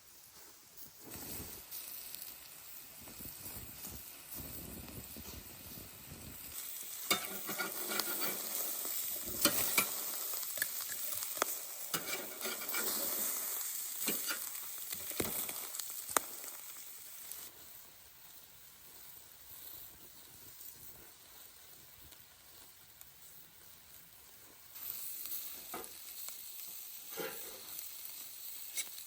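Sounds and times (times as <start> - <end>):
food sizzling in a pan: 0.0 - 29.0
pops and crackles: 0.8 - 17.6, 18.3 - 29.0.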